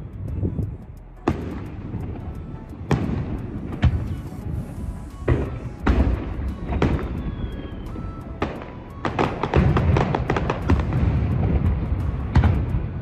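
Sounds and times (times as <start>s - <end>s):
fireworks bangs: 1.3s - 13.0s.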